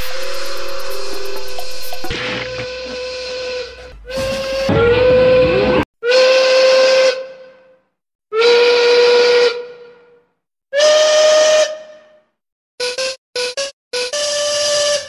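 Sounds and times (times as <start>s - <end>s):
steam locomotive whistle blasts: 0.0s - 10.2s, 10.8s - 12.2s, 14.1s - 15.0s.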